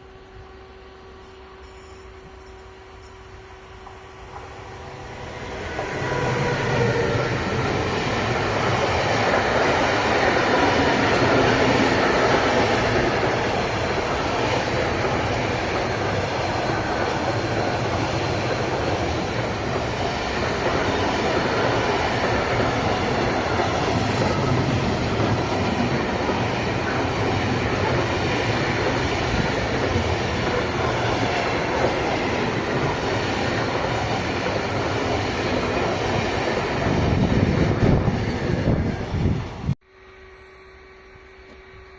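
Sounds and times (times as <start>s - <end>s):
train passing on track: 0.0s - 41.9s.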